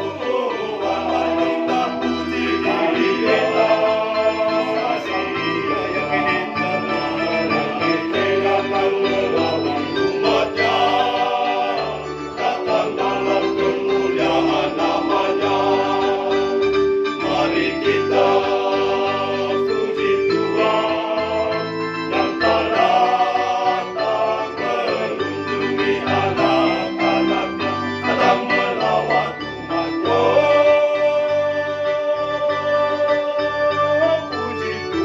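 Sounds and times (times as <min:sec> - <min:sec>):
choir singing a hymn: 0:00.0 - 0:35.0
electronic keyboard chords: 0:00.0 - 0:35.0.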